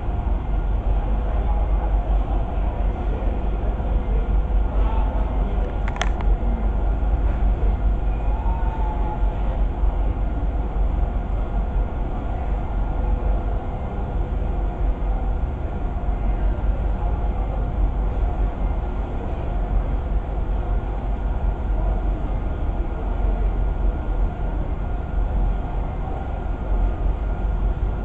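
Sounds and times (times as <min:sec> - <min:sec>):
faint steady hum: 0:00.0 - 0:28.0
ship engines rumbling: 0:00.0 - 0:28.0.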